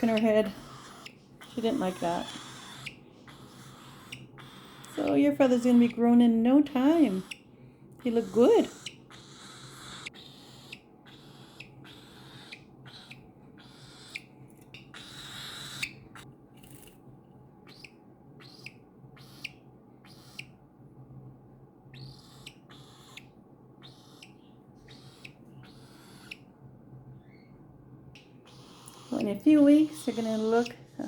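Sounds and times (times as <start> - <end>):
cockatiel chirping: 0.0 - 6.1, 6.8 - 7.4, 8.0 - 16.2, 17.6 - 20.6, 21.9 - 26.5, 28.2 - 30.8.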